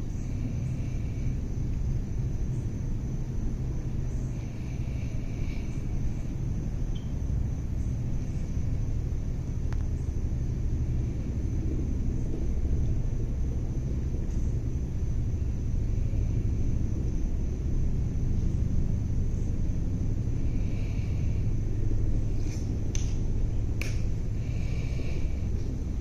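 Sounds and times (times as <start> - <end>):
high-pitched hum: 0.0 - 26.0
low outdoor rumble: 0.0 - 26.0.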